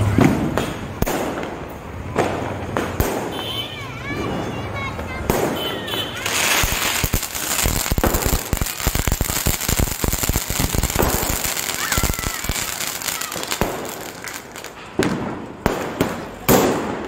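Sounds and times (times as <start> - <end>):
firework fountain crackling: 0.0 - 17.0
sharp firework pops: 0.1 - 3.6, 5.2 - 17.0.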